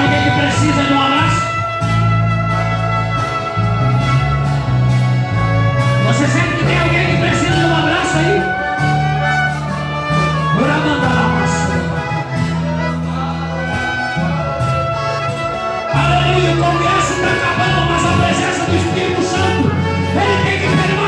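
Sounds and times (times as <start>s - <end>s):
instrumental music with held chords: 0.0s - 21.0s.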